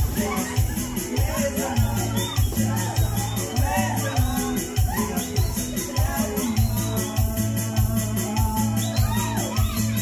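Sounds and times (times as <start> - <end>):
latin dance band music: 0.0 - 10.0.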